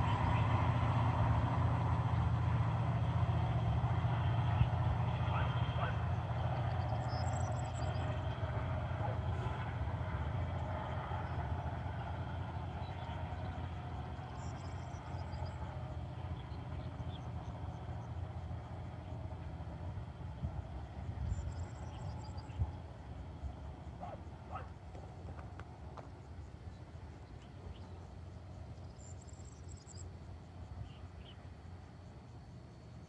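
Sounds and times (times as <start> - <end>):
freight train rumble: 0.0 - 33.0.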